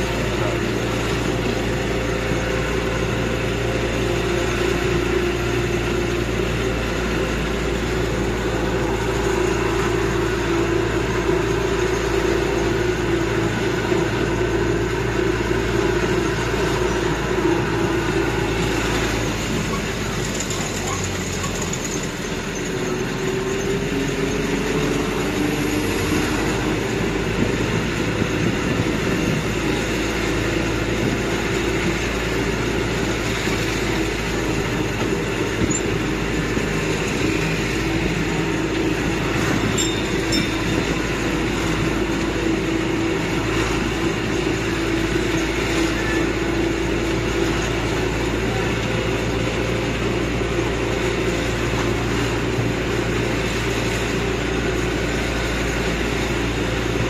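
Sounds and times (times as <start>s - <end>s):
land train engine running: 0.0s - 57.0s.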